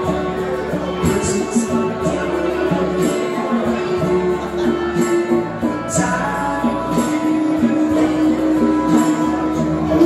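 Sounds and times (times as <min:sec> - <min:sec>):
acoustic guitar: 0:00.0 - 0:10.0.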